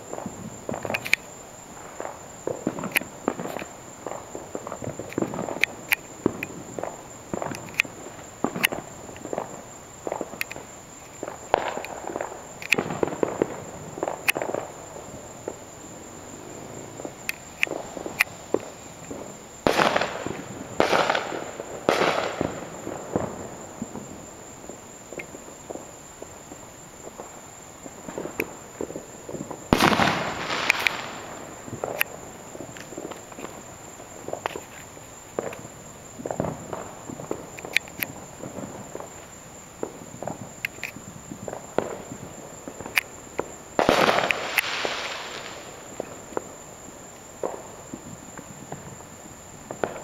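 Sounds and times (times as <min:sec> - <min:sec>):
distant fireworks popping: 0:00.0 - 0:50.0.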